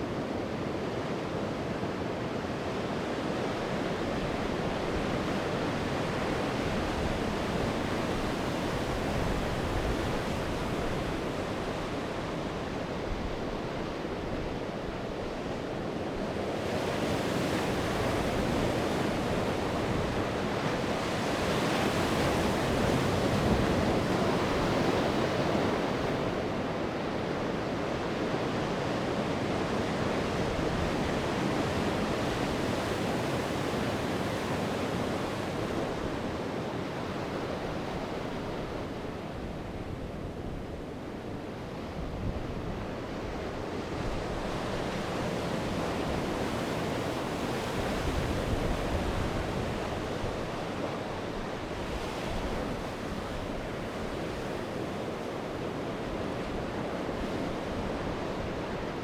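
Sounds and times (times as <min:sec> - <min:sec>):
sea surf breaking on shore: 0:00.2 - 0:59.0.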